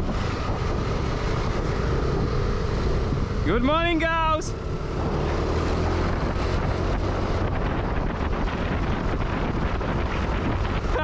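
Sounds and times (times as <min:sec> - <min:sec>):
motorbike engine drone: 0:00.0 - 0:11.0
wind buffeting microphone: 0:00.0 - 0:11.0.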